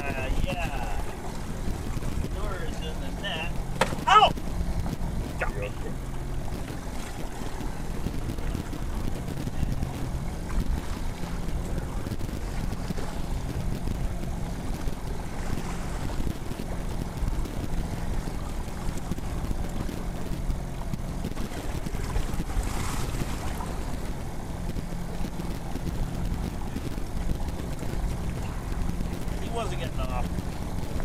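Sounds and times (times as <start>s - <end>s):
boat engine running: 0.0s - 31.0s
choppy water washing: 0.0s - 31.0s
wind on microphone: 0.0s - 31.0s.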